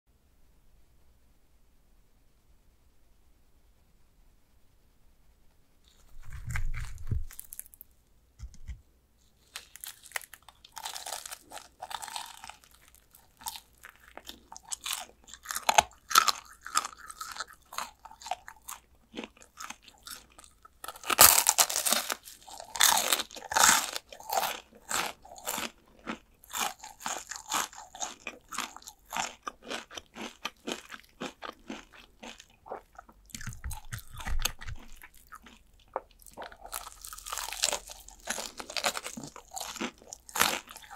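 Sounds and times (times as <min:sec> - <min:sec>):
crunching bites of fried chicken: 0:05.9 - 0:07.8, 0:09.4 - 0:40.9.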